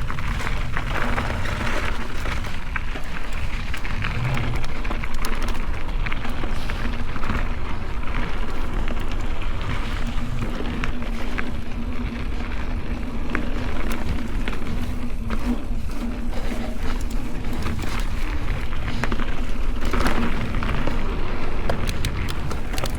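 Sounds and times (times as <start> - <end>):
bike clicks and rattles: 0.0 - 22.9
bike tyres rolling over dirt: 0.0 - 22.9
wind rumble on microphone: 0.0 - 22.9.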